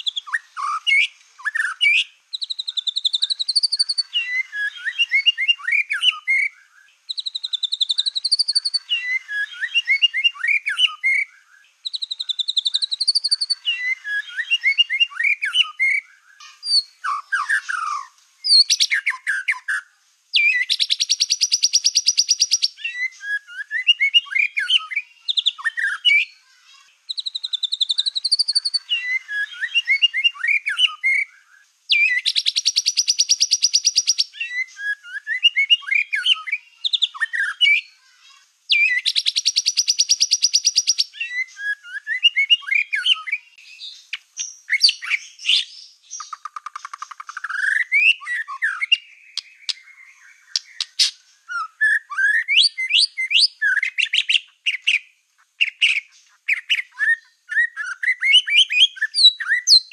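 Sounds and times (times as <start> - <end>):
bird singing whistled phrases: 0.0 - 38.0, 38.7 - 59.9.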